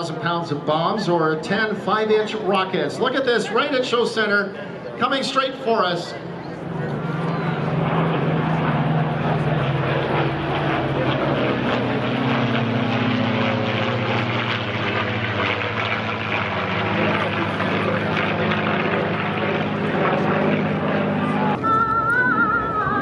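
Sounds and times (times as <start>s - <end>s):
propeller planes droning past: 0.0s - 23.0s.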